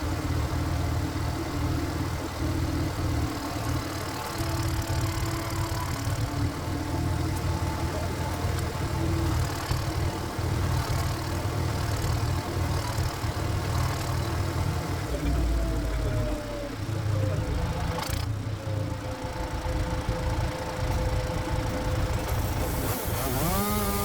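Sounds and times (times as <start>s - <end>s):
diesel engine running steadily: 0.0s - 24.0s.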